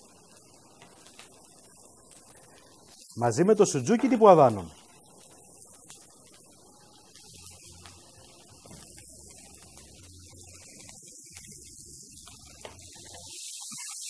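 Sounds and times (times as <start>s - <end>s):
onion sizzling in a frying pan: 0.0s - 14.0s.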